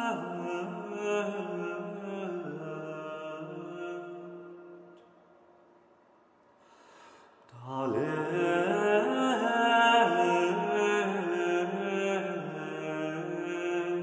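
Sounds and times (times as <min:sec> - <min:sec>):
slow liturgical chant: 0:00.0 - 0:14.0.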